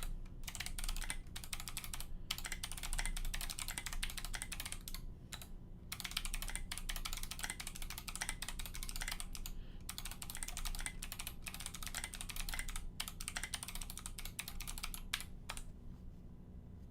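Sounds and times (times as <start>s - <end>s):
fast typing on mechanical keyboard: 0.0s - 15.7s.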